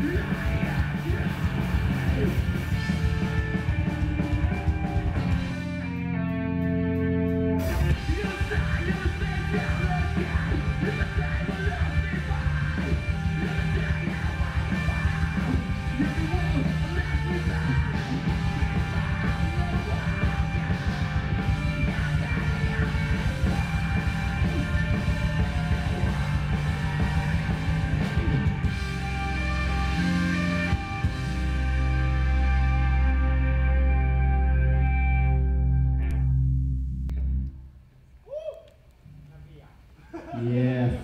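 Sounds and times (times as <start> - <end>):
punk rock music with electric guitar: 0.0 - 37.4.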